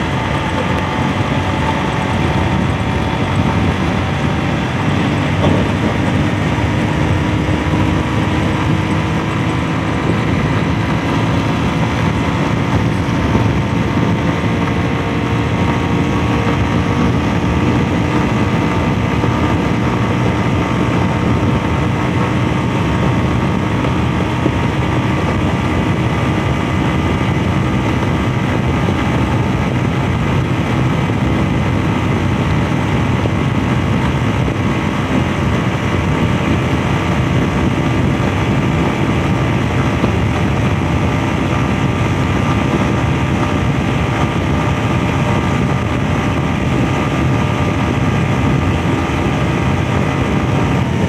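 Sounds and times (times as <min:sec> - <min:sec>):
motorcycle engine running: 0:00.0 - 0:51.0
wind noise on microphone: 0:00.0 - 0:51.0.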